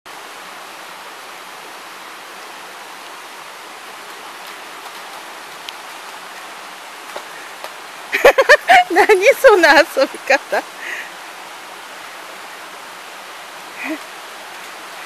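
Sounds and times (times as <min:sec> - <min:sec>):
stream water rushing: 0:00.1 - 0:15.0.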